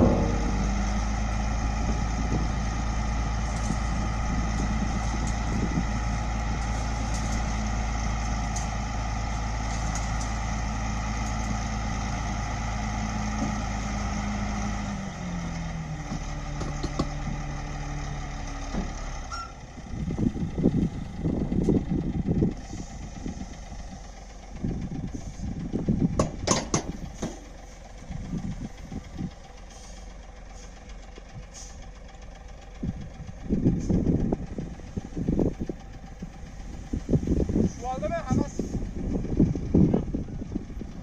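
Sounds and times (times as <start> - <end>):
heavy vehicle engine rumbling: 0.0 - 41.0.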